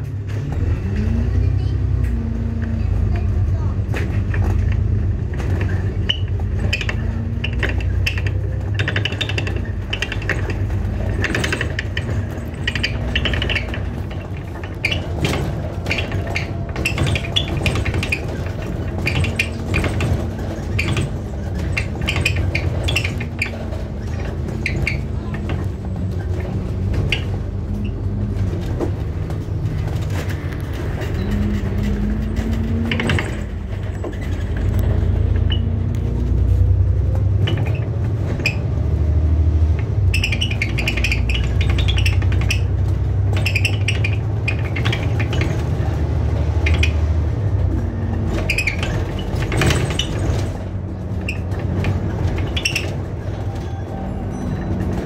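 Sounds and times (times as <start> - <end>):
bus engine and road drone: 0.0 - 55.0
light rattles and clicks: 1.8 - 55.0.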